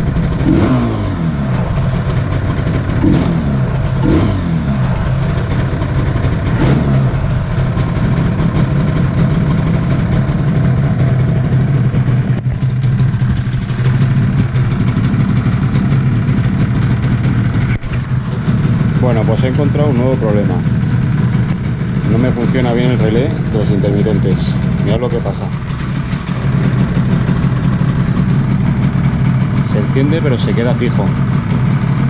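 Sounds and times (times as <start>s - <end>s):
two-stroke engine revving and idling: 0.0s - 32.0s.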